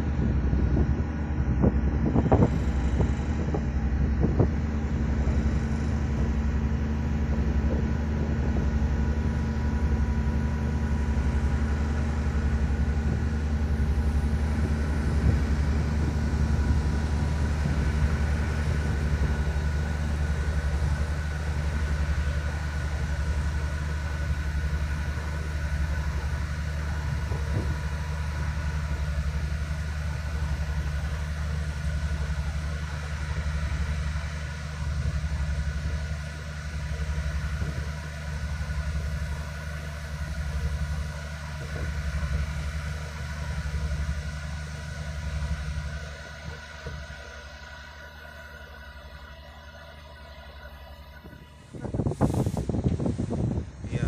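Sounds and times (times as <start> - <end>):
faint higher hum: 0.0 - 54.0
ship engines droning: 0.0 - 54.0.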